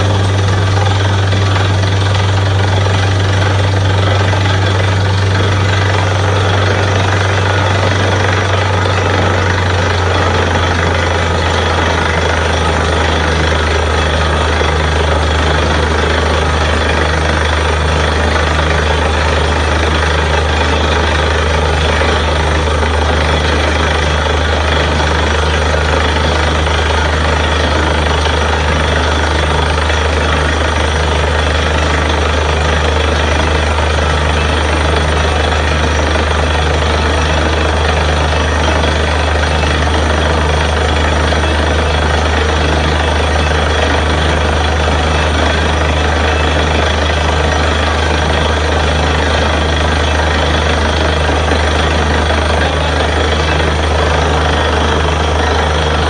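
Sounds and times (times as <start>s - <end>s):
drilling rig droning: 0.0s - 56.0s.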